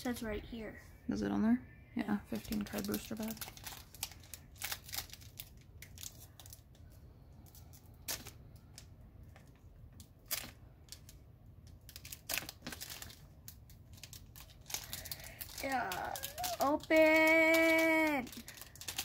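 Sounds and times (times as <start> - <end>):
foil wrapper crackling: 2.2 - 8.9, 10.0 - 19.0.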